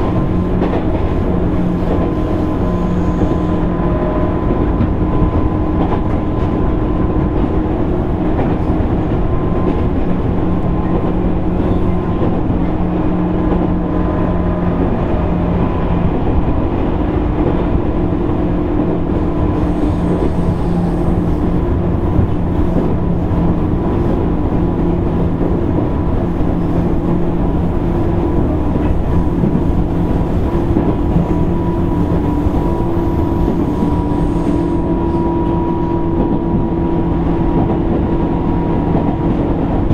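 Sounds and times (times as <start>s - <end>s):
train motor hum: 0.0s - 39.9s
wheels rumbling on rail: 0.0s - 39.9s.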